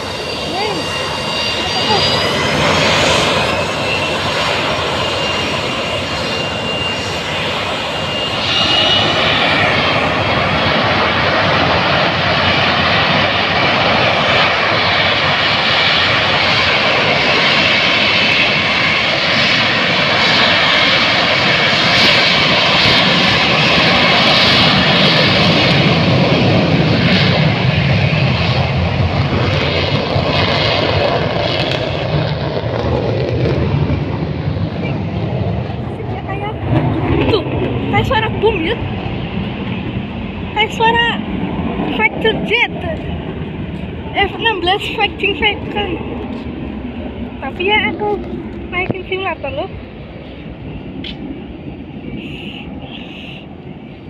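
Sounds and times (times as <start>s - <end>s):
jet engine noise: 0.0s - 54.0s.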